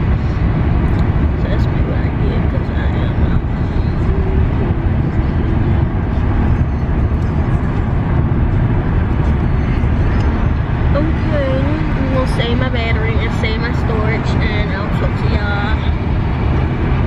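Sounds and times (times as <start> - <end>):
vehicle interior rumble: 0.0 - 17.0.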